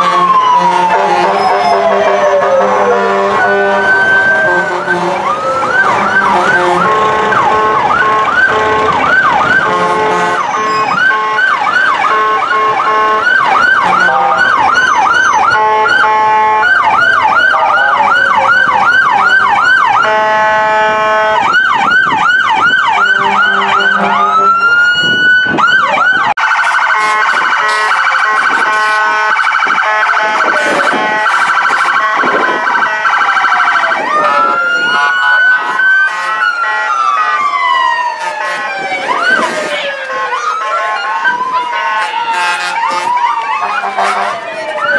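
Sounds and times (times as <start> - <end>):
electronic sirens yelping and wailing: 0.0 - 44.9.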